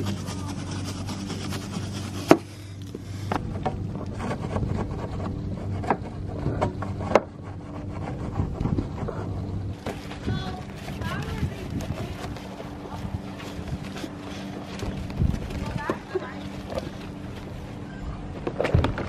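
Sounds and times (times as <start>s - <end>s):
stiff brush scrubbing: 0.0s - 17.9s
steady low hum: 0.0s - 19.0s.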